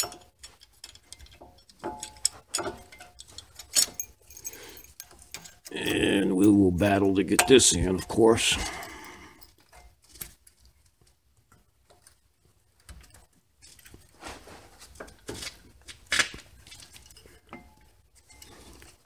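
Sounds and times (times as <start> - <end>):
metal clicks and scrapes: 0.0 - 19.0.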